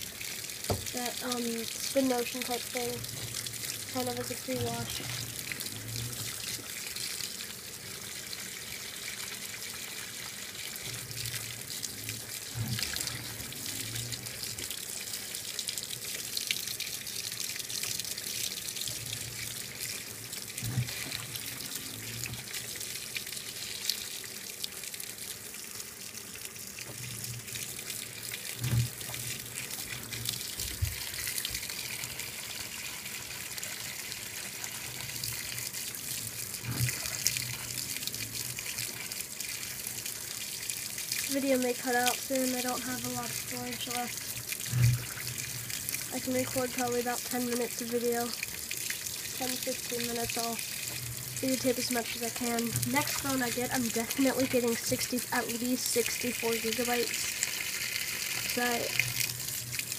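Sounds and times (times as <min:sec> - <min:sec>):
water pouring into washing machine: 0:00.0 - 0:59.9.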